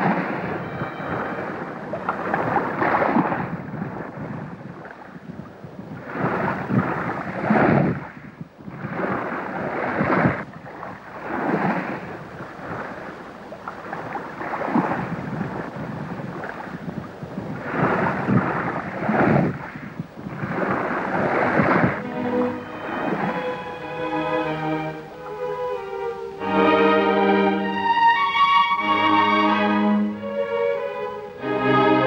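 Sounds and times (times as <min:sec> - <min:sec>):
sea wind: 0:00.0 - 0:32.0
surf: 0:00.0 - 0:32.0.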